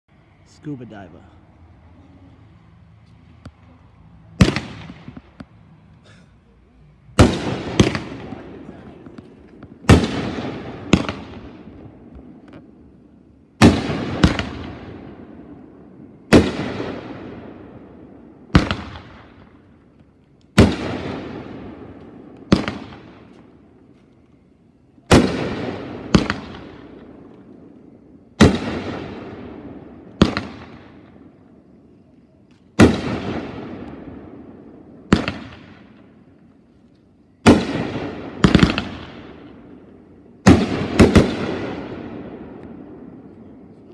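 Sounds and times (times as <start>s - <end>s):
firework bangs: 4.2s - 24.0s, 25.0s - 36.7s, 37.3s - 43.9s.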